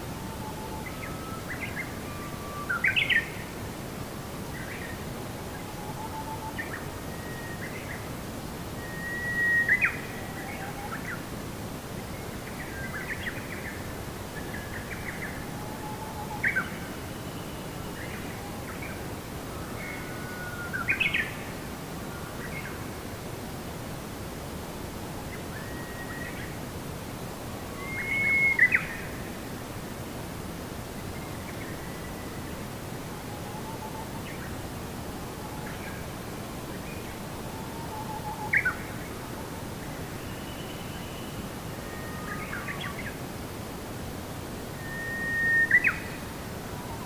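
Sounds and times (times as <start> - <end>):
steady ambient hiss: 0.0 - 47.0.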